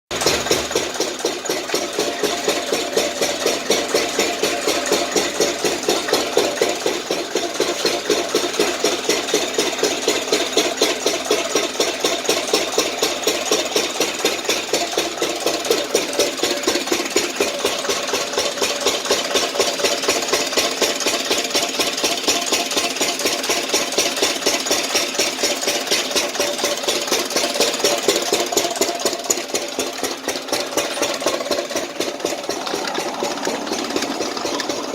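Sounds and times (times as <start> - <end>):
irrigation pump engine running: 0.1 - 34.9.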